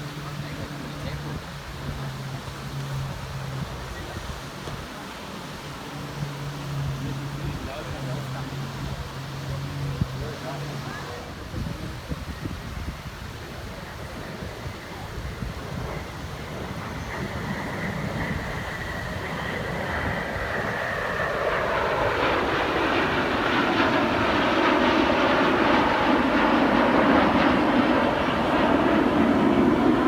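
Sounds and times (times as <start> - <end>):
airplane engine roar: 0.0 - 30.0.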